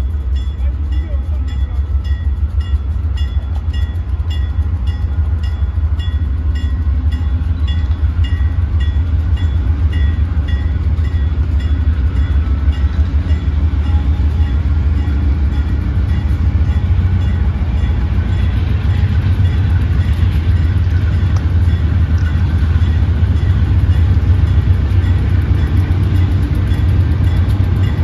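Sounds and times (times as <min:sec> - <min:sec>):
crossing bell ringing: 0:00.0 - 0:28.0
diesel locomotive rumble: 0:00.0 - 0:28.0.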